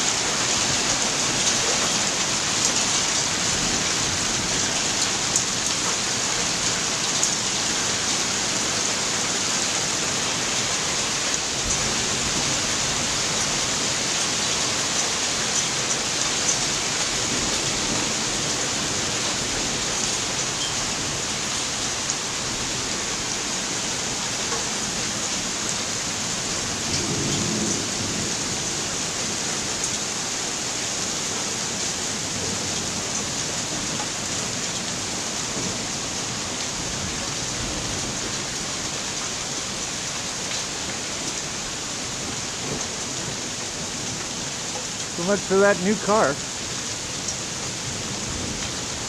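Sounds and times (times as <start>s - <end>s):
hail and rain pattering: 0.0s - 49.0s.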